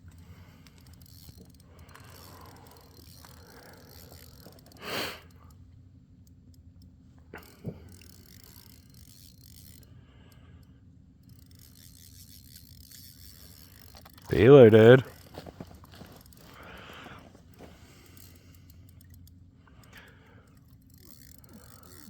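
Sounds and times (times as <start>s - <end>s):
fishing reel ratcheting: 0.0s - 5.6s, 6.2s - 22.0s.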